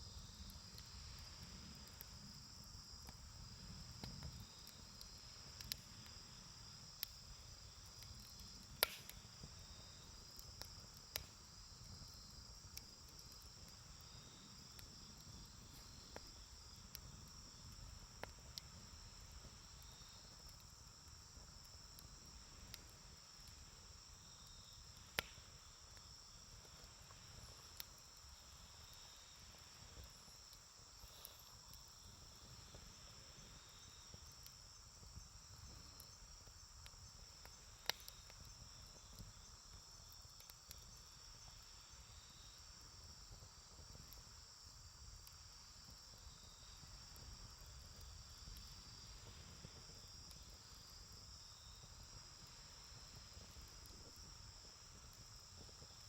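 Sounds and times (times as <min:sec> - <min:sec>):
insects chirring: 0:00.0 - 0:56.0
campfire popping: 0:00.1 - 0:56.0.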